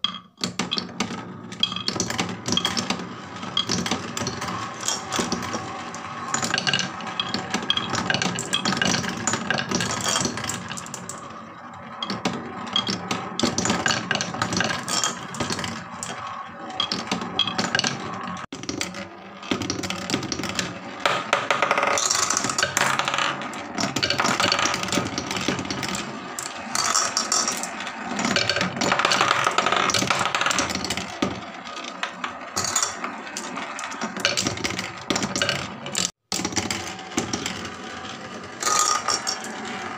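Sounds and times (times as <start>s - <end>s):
marbles rattling down wooden tracks: 0.0s - 39.9s.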